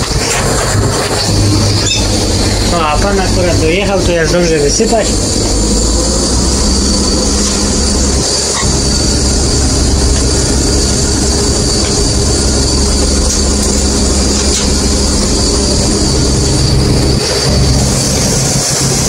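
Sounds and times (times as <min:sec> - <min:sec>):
combine harvester mechanical din: 0:00.0 - 0:19.0
low engine hum: 0:00.0 - 0:19.0.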